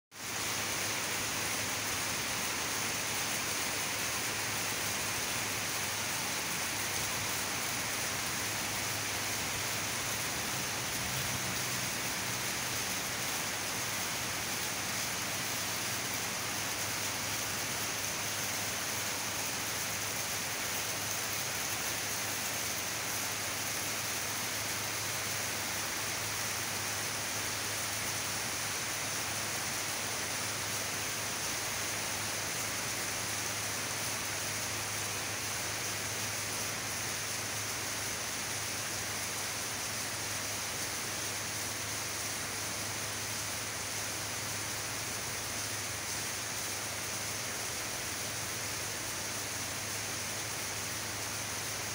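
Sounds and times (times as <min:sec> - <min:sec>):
heavy rain on vegetation: 0:00.1 - 0:51.9.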